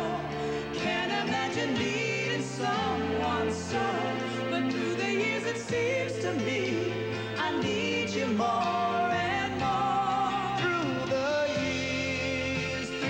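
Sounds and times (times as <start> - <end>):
band accompaniment: 0.0 - 13.0
man singing pop ballad: 0.0 - 13.0.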